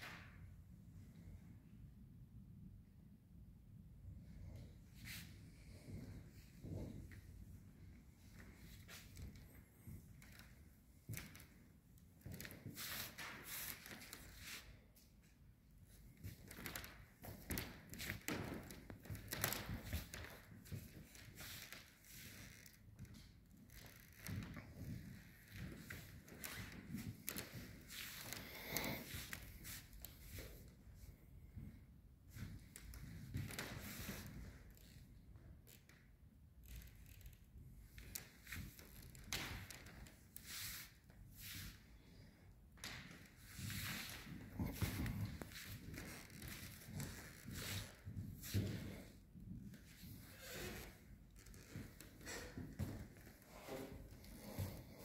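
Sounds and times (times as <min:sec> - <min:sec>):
soft rustles: 0:04.4 - 0:35.2, 0:37.9 - 0:55.0.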